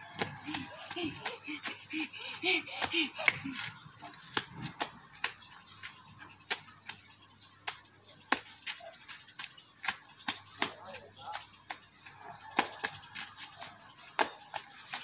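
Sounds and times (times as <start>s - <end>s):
skipping rope slapping dirt: 0.0s - 15.0s.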